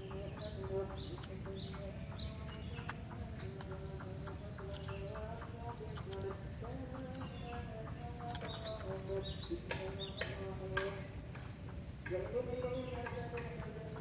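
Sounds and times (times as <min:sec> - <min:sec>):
bulbuls chirping: 0:00.0 - 0:14.0
faint steady hum: 0:00.0 - 0:14.0.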